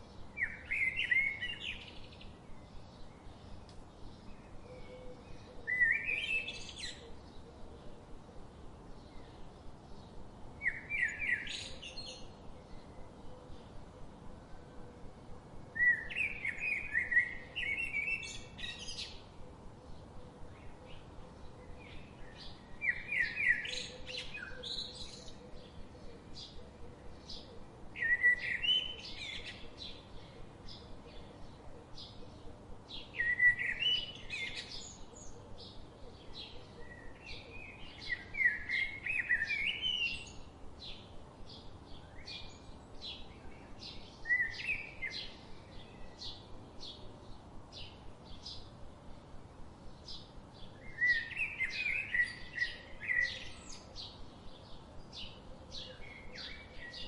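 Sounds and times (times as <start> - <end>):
bird warbling song: 0.0 - 8.0, 9.0 - 14.1, 15.8 - 48.8, 49.9 - 57.0.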